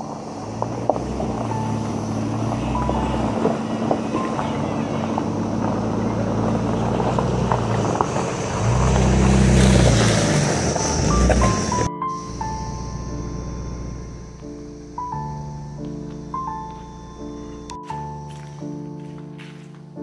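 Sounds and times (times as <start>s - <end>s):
car engine humming: 0.0s - 18.2s.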